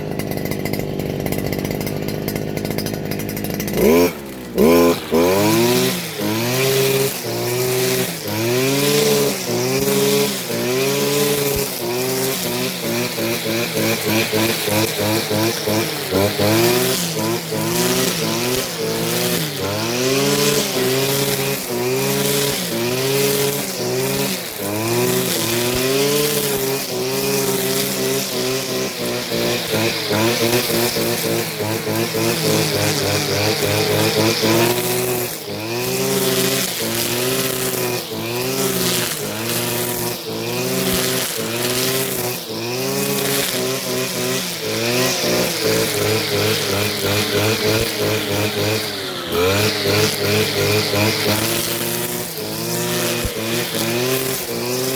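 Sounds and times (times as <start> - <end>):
small petrol engine cutting grass: 0.0 - 54.9.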